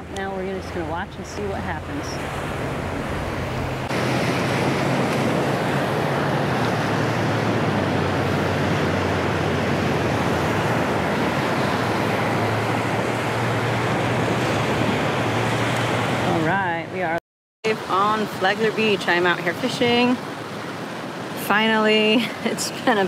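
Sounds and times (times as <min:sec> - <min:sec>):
ocean surf on sandy beach: 0:00.0 - 0:23.0.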